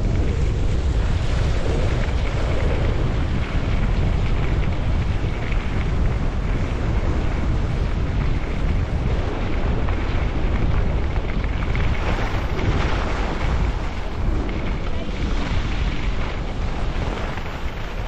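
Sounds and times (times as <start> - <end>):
skis sliding over snow: 0.0 - 18.0
wind rumbling on microphone: 0.0 - 18.0.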